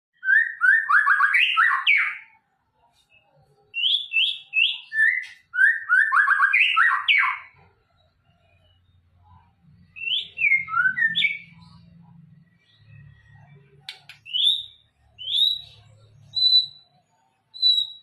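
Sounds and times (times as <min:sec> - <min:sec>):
bird singing whistled notes: 0:00.2 - 0:02.4, 0:03.8 - 0:09.1, 0:09.8 - 0:11.8, 0:12.6 - 0:18.0.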